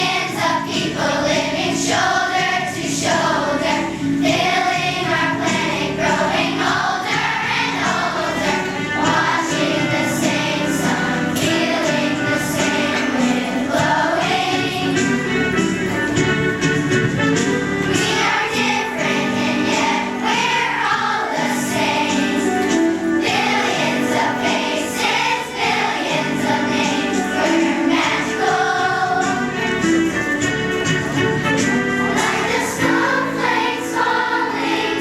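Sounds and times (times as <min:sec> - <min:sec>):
choir singing: 0:00.0 - 0:15.7, 0:17.8 - 0:30.0, 0:32.0 - 0:35.0.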